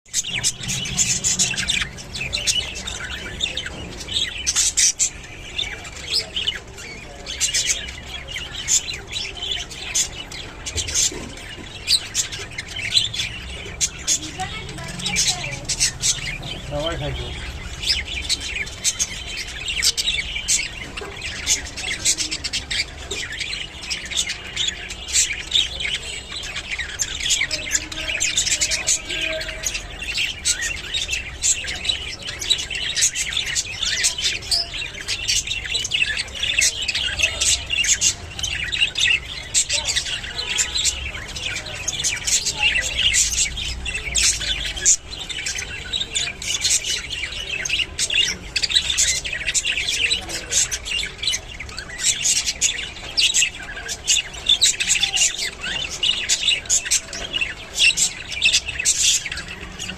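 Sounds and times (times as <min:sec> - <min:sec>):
budgerigars chattering: 0:00.1 - 0:59.9.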